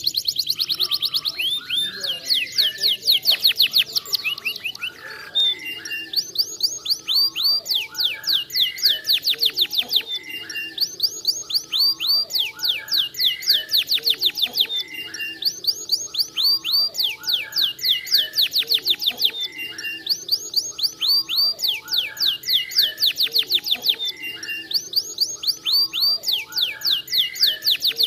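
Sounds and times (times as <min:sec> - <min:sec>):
canary singing trills: 0:00.0 - 0:28.0.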